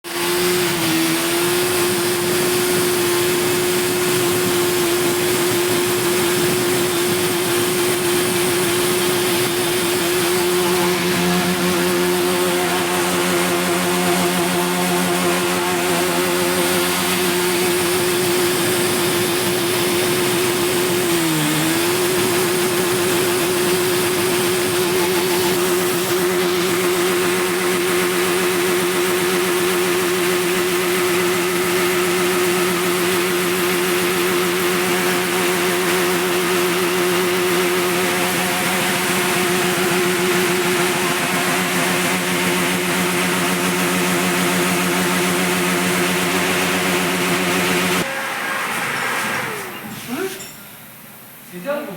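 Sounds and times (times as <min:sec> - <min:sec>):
motorcycle engine at high revs: 0:00.0 - 0:49.9.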